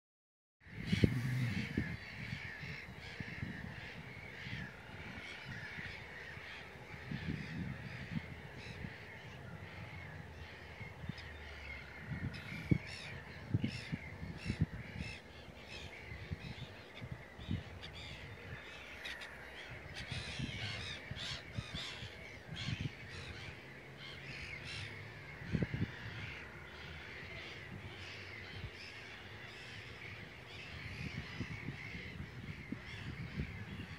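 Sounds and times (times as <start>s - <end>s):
birds calling: 0.7s - 33.9s.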